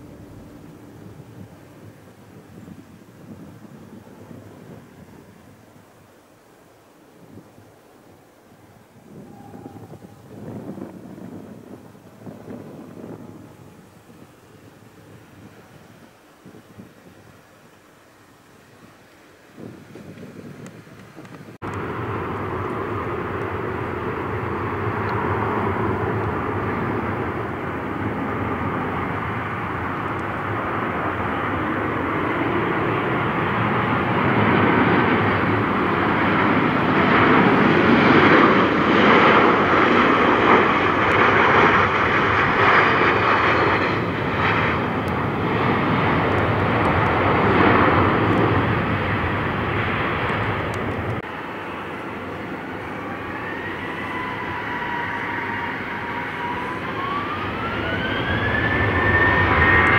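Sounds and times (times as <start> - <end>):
airplane engines passing: 0.0 - 59.9.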